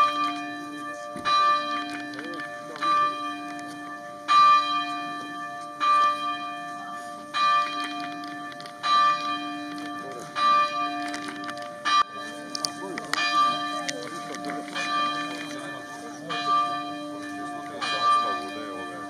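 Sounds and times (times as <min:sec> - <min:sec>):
church bell tolling: 0:00.0 - 0:19.0.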